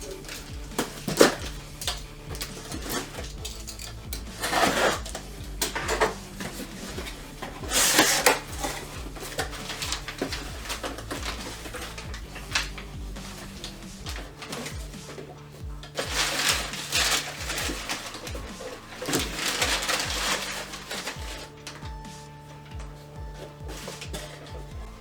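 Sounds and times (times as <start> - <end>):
packaging rustling and clattering: 0.0 - 25.0
quiet background music with bass: 0.0 - 25.0.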